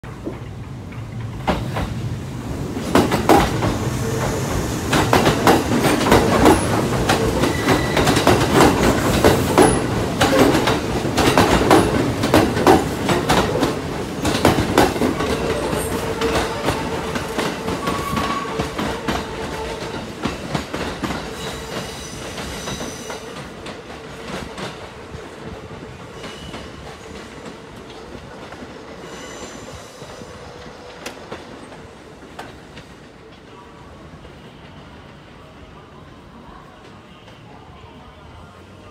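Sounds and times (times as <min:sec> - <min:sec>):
train wheels clattering over rails: 0:00.0 - 0:33.0
steady train tone: 0:00.0 - 0:38.9.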